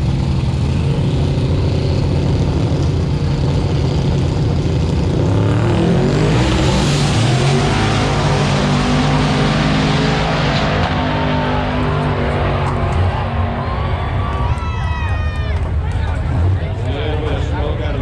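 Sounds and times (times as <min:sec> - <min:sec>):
vehicle engine running and revving: 0:00.0 - 0:18.0.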